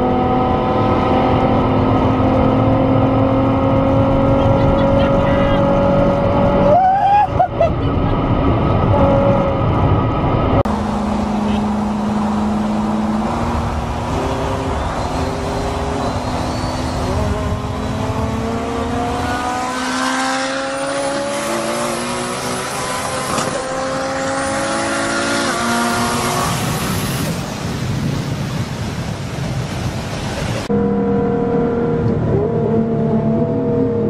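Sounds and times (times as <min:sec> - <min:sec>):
car engine accelerating hard: 0:00.0 - 0:27.6, 0:30.2 - 0:34.0
wind and road noise: 0:00.0 - 0:34.0.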